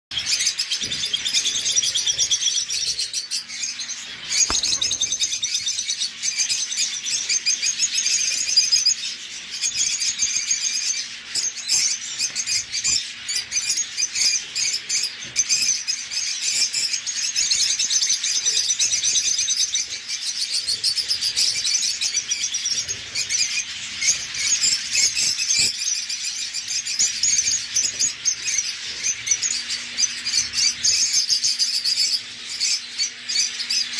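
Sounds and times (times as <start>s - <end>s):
birds chirping in chorus: 0.1s - 33.9s.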